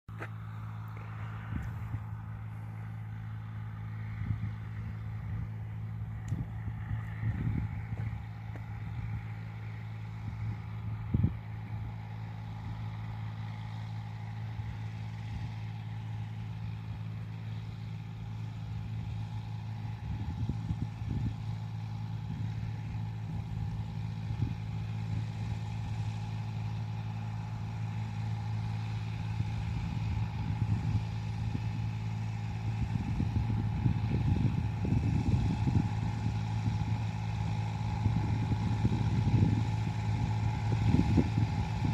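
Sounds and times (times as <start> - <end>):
engine running steadily: 0.1 - 41.9.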